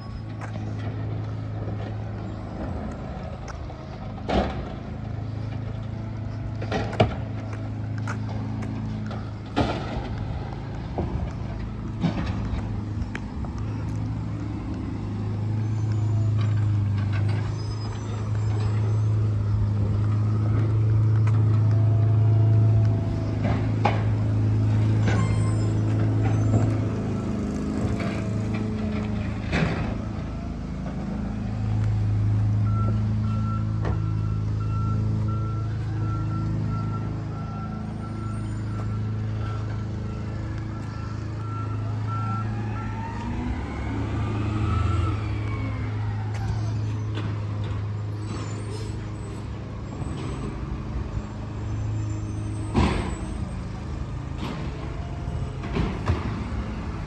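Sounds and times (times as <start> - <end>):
garbage truck engine revving: 0.0 - 57.0.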